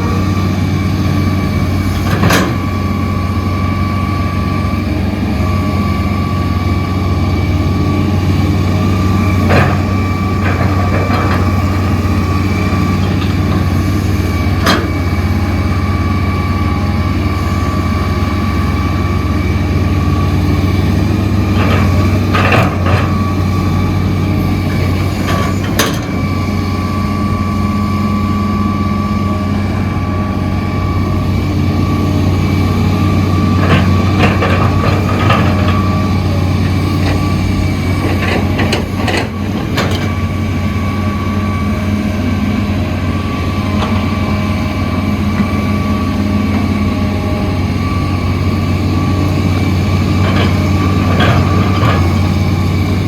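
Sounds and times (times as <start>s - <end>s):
diesel construction machinery running: 0.0s - 53.0s
machinery whine: 0.0s - 53.0s.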